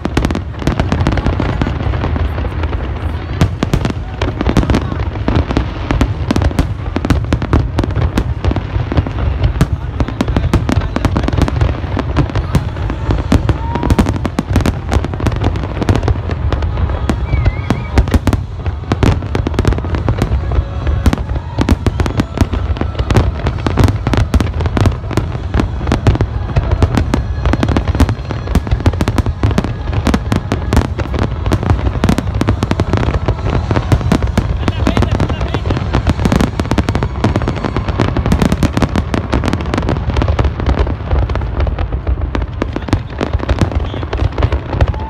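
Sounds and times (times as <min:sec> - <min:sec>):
deep rumble: 0:00.0 - 0:45.0
fireworks bangs and crackles: 0:00.0 - 0:45.0.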